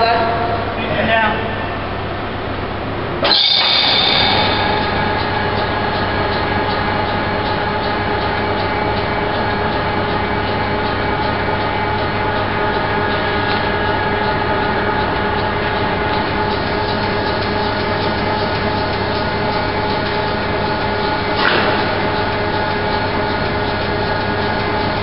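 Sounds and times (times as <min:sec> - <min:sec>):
diesel rail engine droning: 0:00.0 - 0:25.0.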